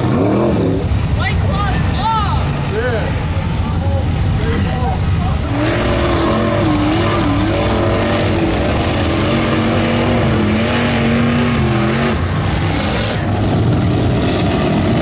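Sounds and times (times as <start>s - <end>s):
tires churning through mud: 0.0s - 15.0s
truck engine revving: 0.0s - 15.0s.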